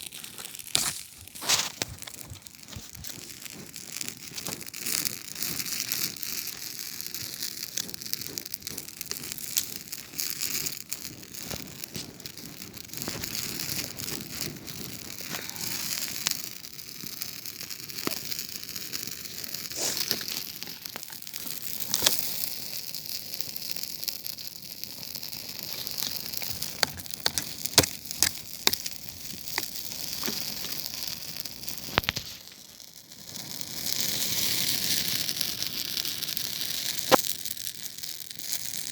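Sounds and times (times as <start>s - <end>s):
sharp pops of fire: 0.0s - 38.9s
steady hiss of fire: 0.0s - 38.9s
wood crackling: 0.0s - 38.9s.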